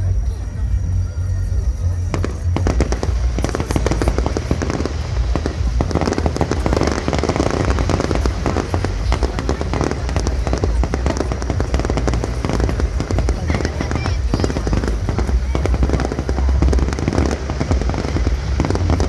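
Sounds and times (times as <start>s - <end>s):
fireworks bursts and crackling: 0.0s - 19.0s
low rumble: 0.0s - 19.0s.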